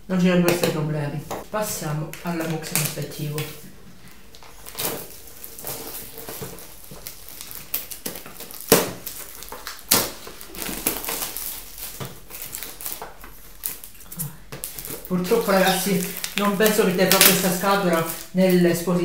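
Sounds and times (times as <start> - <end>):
plastic bag crinkling: 1.4 - 19.0.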